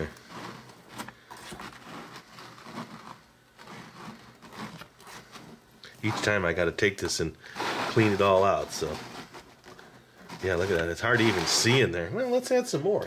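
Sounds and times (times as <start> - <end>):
plastic spoon scraping plastic: 0.0 - 13.0.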